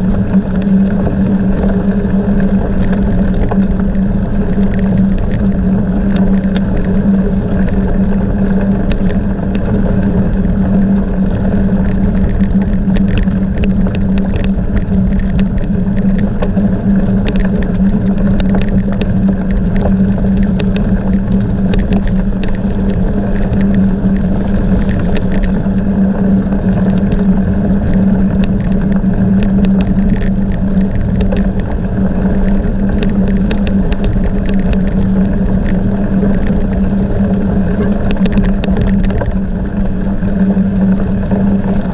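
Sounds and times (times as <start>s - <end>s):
bicycle clicks and rattles: 0.0s - 41.9s
tyres and wind rumble: 0.0s - 41.9s.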